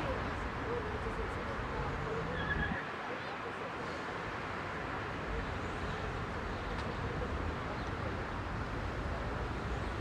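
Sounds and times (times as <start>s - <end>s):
heavy city traffic rumble: 0.0s - 10.0s.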